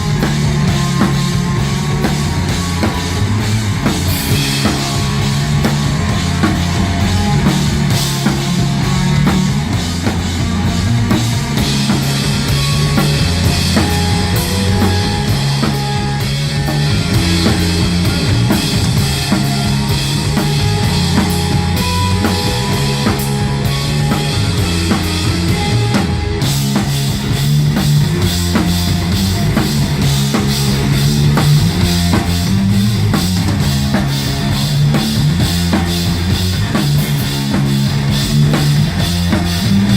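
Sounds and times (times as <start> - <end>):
bass guitar riff: 0.0 - 39.9
drum kit with cymbals: 0.0 - 39.9.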